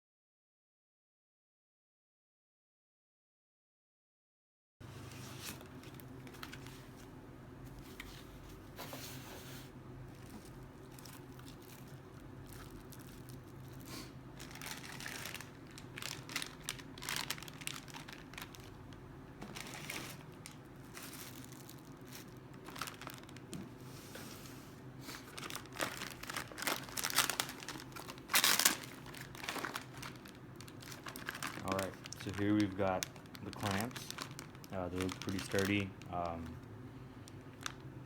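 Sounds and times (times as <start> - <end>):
packaging crinkling and rustling: 5.0 - 9.3, 10.0 - 23.9, 25.0 - 38.0.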